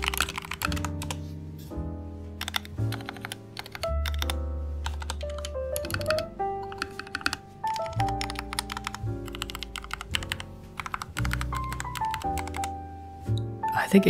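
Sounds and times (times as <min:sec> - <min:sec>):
mechanical keyboard typing: 0:00.0 - 0:01.2, 0:02.4 - 0:12.8
music: 0:00.0 - 0:14.0.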